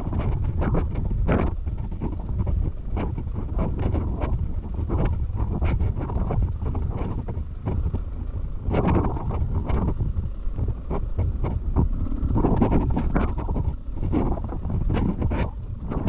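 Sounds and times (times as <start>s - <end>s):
dirt bike engine running: 0.0s - 16.0s
wind on microphone: 0.0s - 16.0s.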